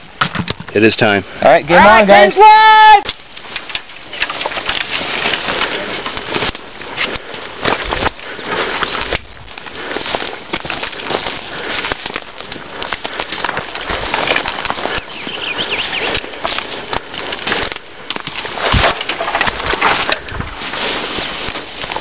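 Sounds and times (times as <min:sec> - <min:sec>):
branches crackling and rustling: 0:00.0 - 0:22.0
footsteps in brush: 0:03.0 - 0:22.0.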